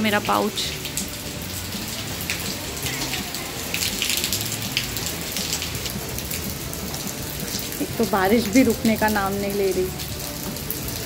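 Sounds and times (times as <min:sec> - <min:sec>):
raindrop ticks: 0:00.0 - 0:11.0
steady rain: 0:00.0 - 0:11.0.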